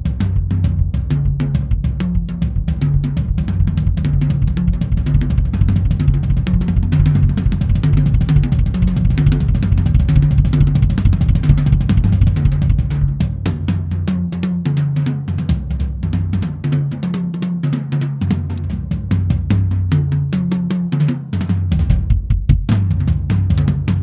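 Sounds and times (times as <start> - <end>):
bass drum: 0.0 - 24.0
snare and tom strokes: 0.0 - 24.0.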